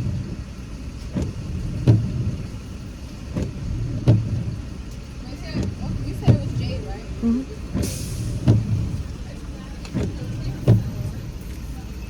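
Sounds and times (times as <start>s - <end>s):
windshield wipers knocking: 0.0s - 11.7s
low car hum: 0.0s - 12.0s.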